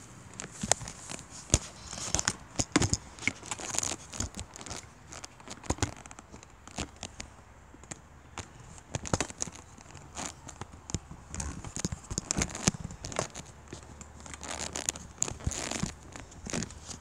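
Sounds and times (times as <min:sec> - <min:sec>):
camera handling noise: 0:00.3 - 0:17.0.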